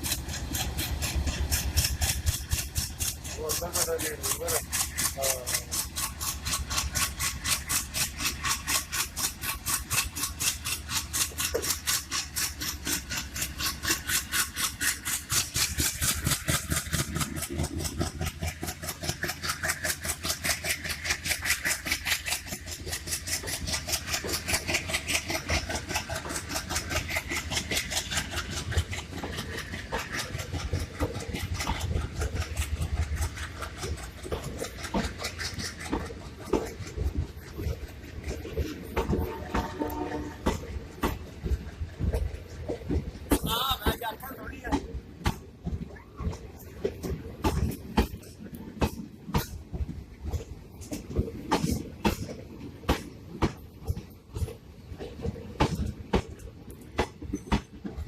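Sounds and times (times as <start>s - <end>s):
low train rumble: 0.0s - 58.0s
train wheels clattering on rails: 0.0s - 58.0s.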